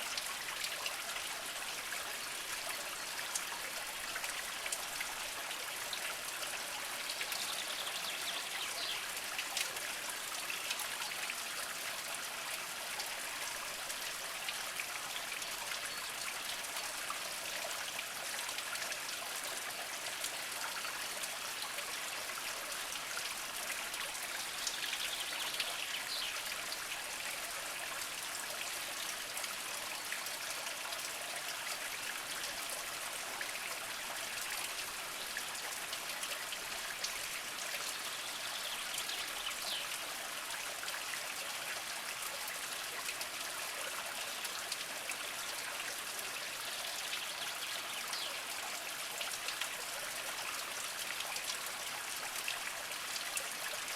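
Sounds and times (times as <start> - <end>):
spring water trickling over rocks: 0.0 - 53.9.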